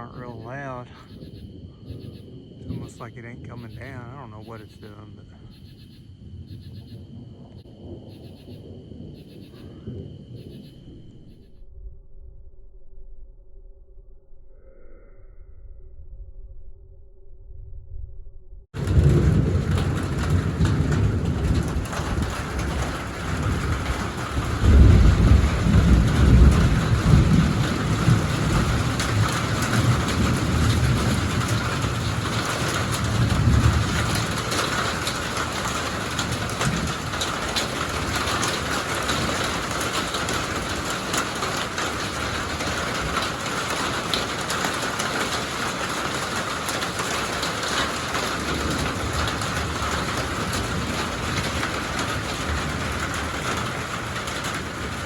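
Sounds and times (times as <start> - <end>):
steady rain: 0.0 - 11.3, 18.8 - 55.0
thunder rumbling: 0.0 - 13.8, 15.8 - 55.0.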